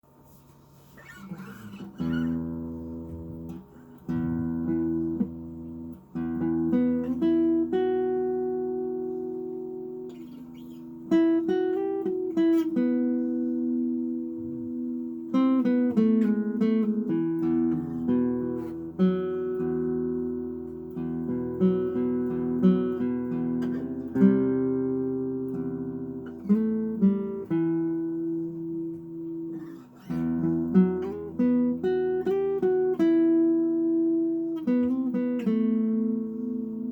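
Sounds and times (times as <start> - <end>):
acoustic guitar playing: 0.0 - 36.9.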